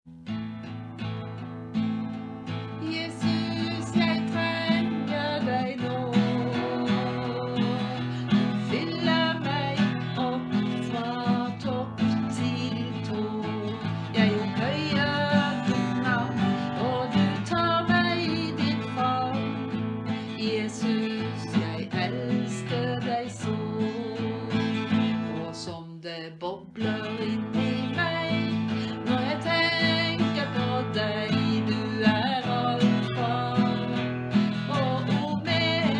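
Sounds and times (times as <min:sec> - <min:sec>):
guitar strumming: 0:00.1 - 0:25.5, 0:26.9 - 0:35.9.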